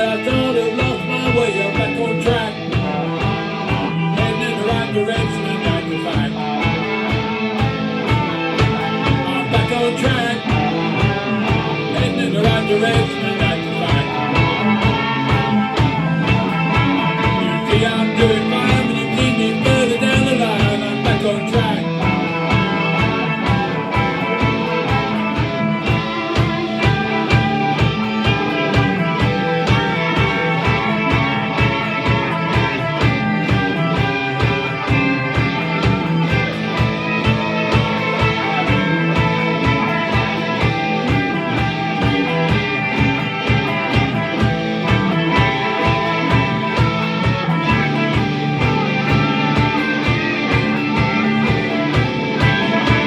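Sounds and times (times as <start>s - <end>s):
drum beat: 0.0s - 53.0s
electric guitars playing: 0.0s - 53.0s.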